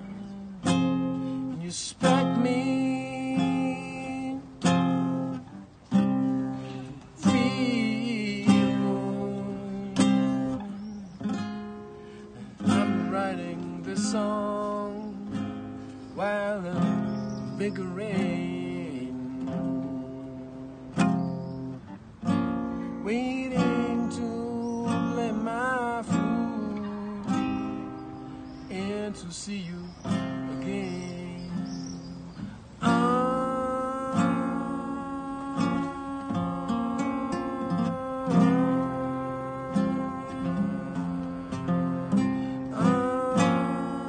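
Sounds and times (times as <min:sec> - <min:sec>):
man singing: 0:00.0 - 0:21.8, 0:22.9 - 0:28.0, 0:28.6 - 0:44.0
acoustic guitar strumming: 0:00.0 - 0:44.0.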